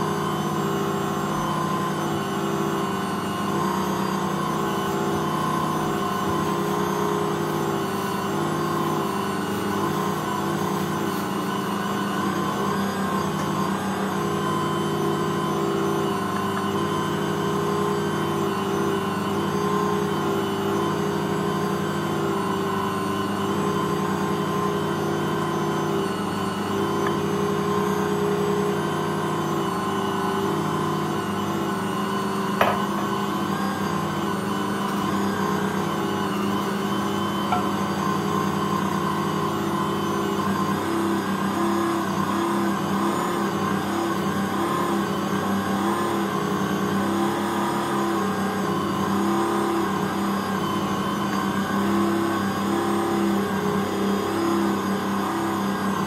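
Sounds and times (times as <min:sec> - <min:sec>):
stand mixer running: 0:00.0 - 0:56.0.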